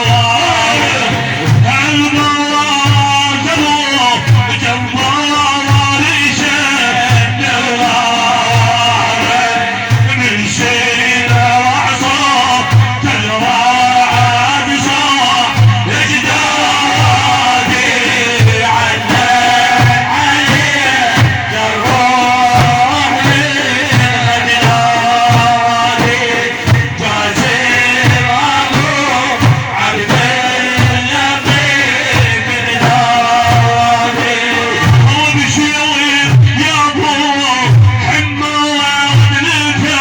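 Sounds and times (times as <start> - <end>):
steady drum beat: 0.0 - 40.0.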